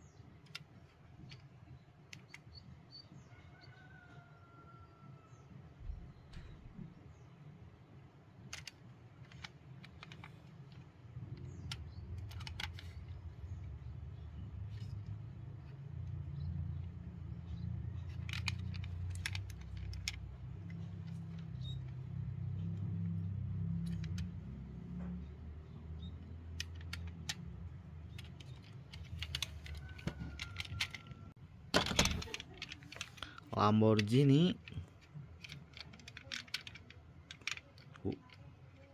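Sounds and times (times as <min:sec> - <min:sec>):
toy cars clicking and tapping: 0:00.4 - 0:02.6, 0:08.4 - 0:38.9.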